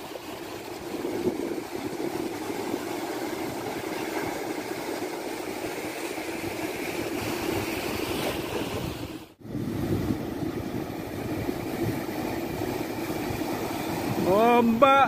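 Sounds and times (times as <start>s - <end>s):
small waves washing onto shore: 0.0s - 15.0s.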